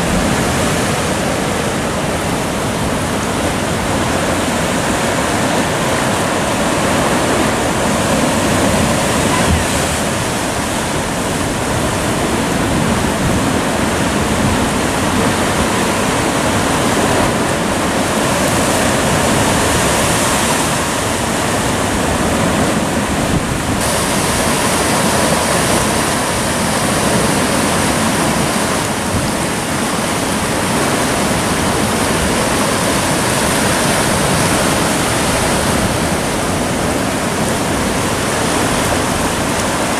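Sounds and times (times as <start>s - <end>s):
sea surf breaking over rocks: 0.0s - 39.9s.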